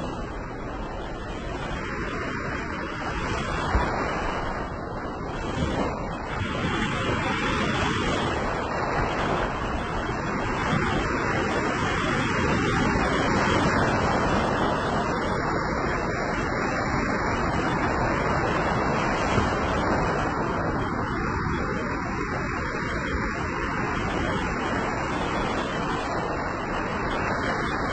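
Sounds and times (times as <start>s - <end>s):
waves washing up a beach: 0.0s - 27.9s.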